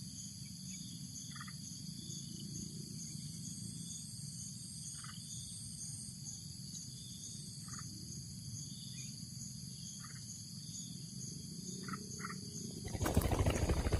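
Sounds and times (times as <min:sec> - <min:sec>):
insects chirring: 0:00.0 - 0:13.9.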